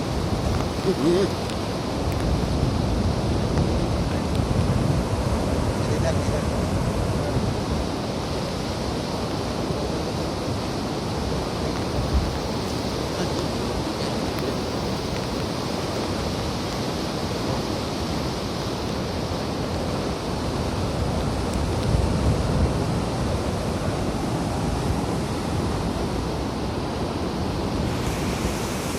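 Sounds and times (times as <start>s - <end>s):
rushing flood water roar: 0.0s - 28.9s.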